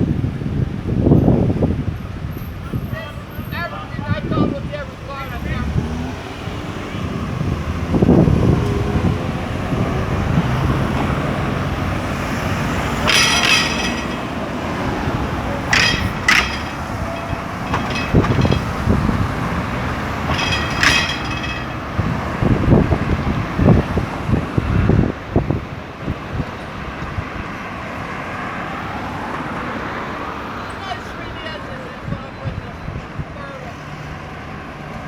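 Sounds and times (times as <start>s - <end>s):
vehicle engines rumbling: 0.0s - 35.0s.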